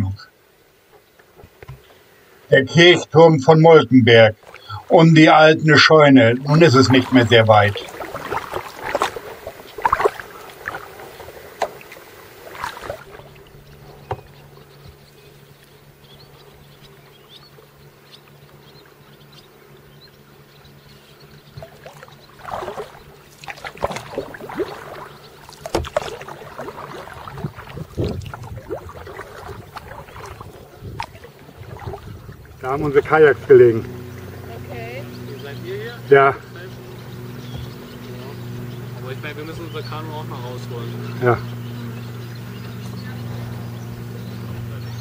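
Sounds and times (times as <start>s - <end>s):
kayak paddle splashing: 0.0s - 45.0s.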